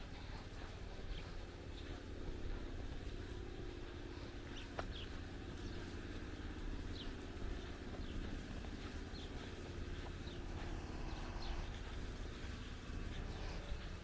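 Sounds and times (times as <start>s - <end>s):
low traffic hum: 0.0s - 14.0s.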